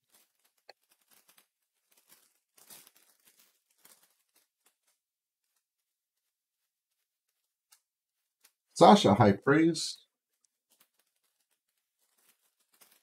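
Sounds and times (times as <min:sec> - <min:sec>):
trading cards rustling and ticking: 0:00.0 - 0:09.4, 0:10.0 - 0:13.0.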